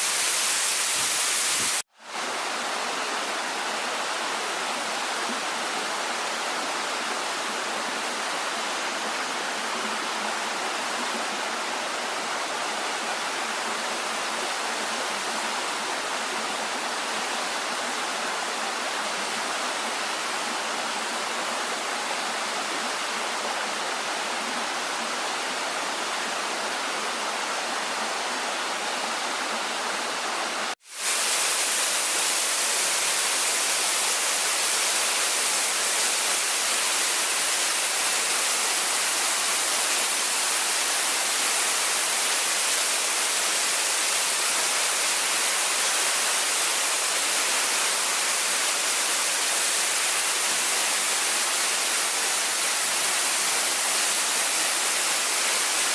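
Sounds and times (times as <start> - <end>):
waterfall rushing: 0.0 - 26.8, 27.8 - 55.9.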